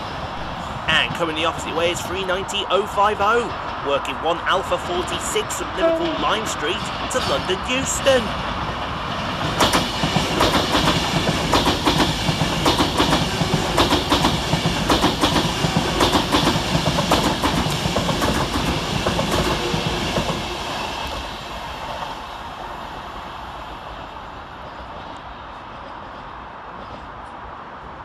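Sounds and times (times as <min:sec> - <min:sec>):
rush of passing train coaches: 0:00.0 - 0:28.0.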